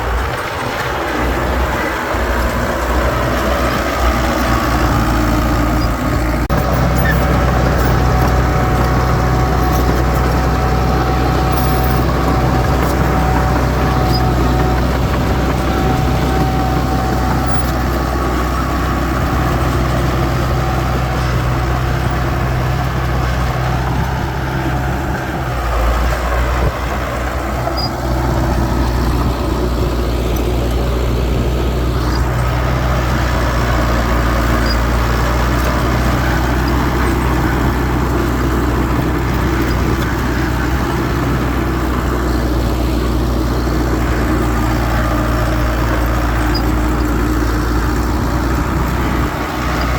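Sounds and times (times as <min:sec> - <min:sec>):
heavy diesel engine humming: 0:00.0 - 0:49.9.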